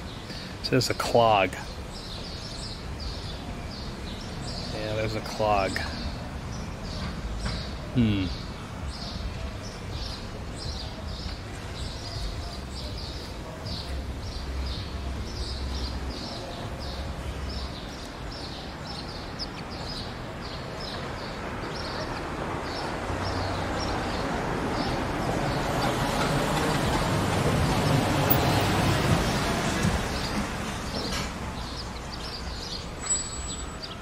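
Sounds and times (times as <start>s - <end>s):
bird chirping: 1.6s - 34.0s.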